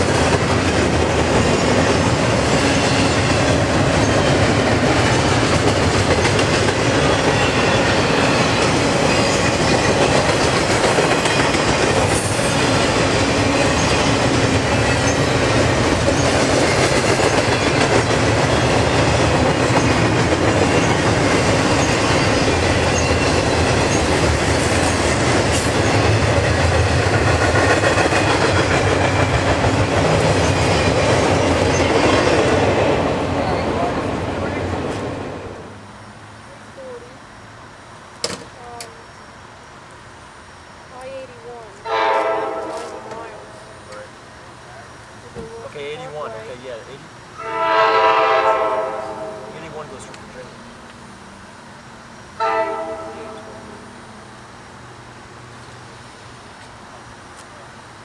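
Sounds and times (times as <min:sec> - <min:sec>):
freight train wheels on rails: 0:00.0 - 0:37.0, 0:39.8 - 0:58.0.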